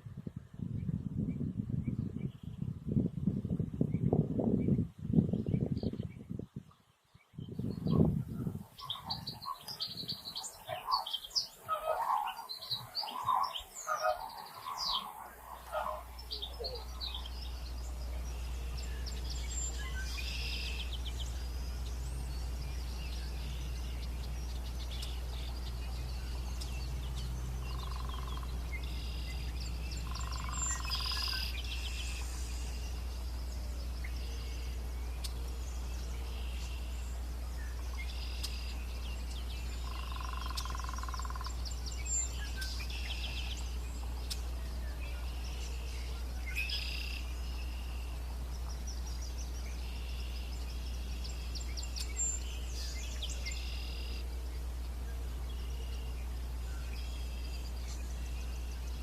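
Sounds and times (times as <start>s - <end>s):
constant low rumble: 0.0s - 59.0s
songbird singing: 0.0s - 59.0s.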